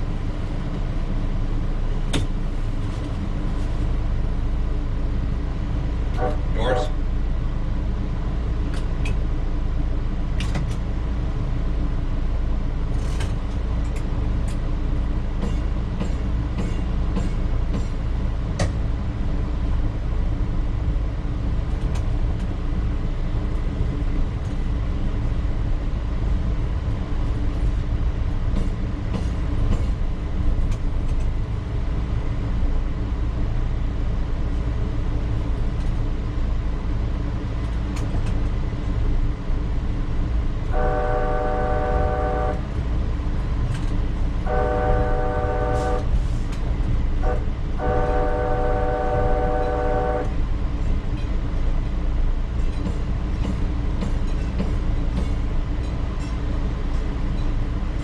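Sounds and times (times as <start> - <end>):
light rail car rumbling on track: 0.0 - 58.0.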